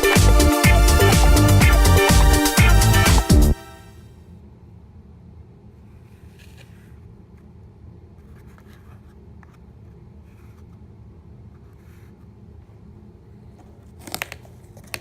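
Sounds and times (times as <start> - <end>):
low steady hum: 2.8 - 15.0.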